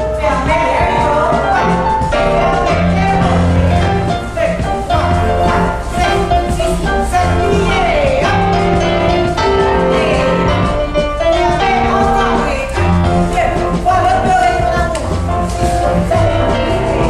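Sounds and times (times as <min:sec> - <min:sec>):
instrumental music with bass line: 0:00.0 - 0:17.0
person singing: 0:00.0 - 0:17.0.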